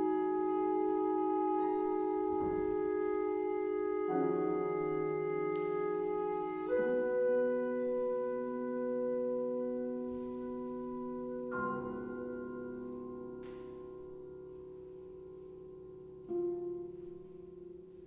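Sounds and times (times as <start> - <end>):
quiet chamber music: 0.0 - 18.0.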